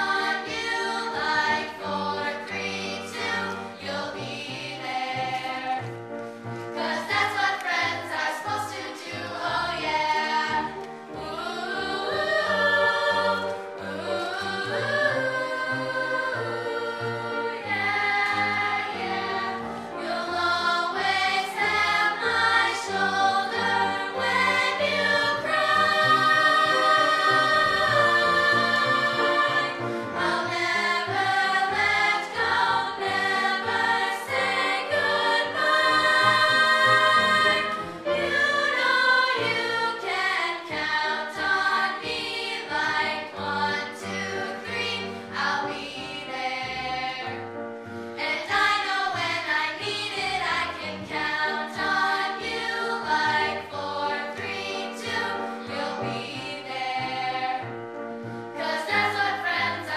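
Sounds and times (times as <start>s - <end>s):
girls' chorus singing: 0.0s - 5.9s, 6.7s - 47.4s, 48.2s - 57.7s, 58.6s - 59.9s.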